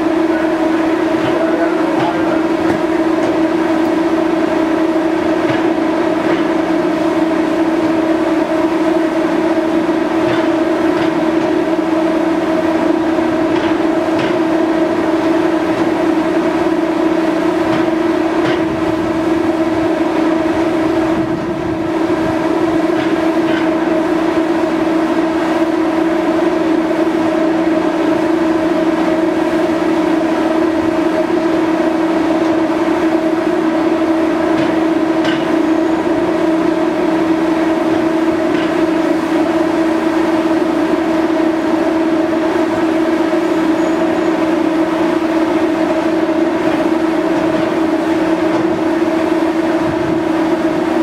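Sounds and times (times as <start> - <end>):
ferry machinery drone: 0.0 - 51.0.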